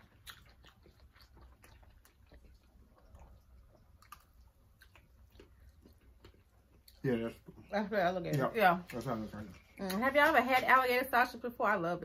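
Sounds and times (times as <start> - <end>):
faint chewing: 0.0 - 10.6.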